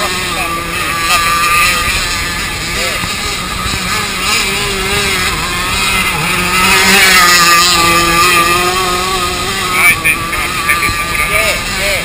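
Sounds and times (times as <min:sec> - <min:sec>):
model boat engine running: 0:00.0 - 0:12.0.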